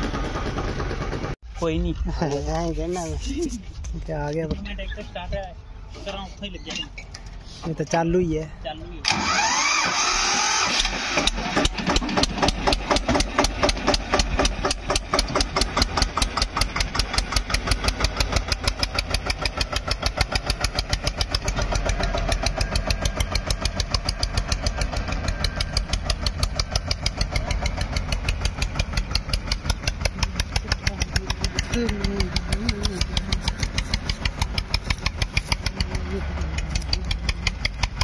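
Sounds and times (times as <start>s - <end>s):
diesel tractor engine idling: 0.0s - 38.0s.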